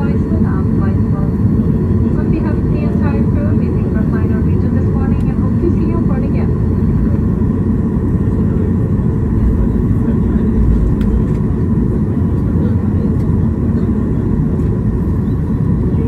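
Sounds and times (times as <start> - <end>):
jet cabin engine rumble: 0.0 - 16.0.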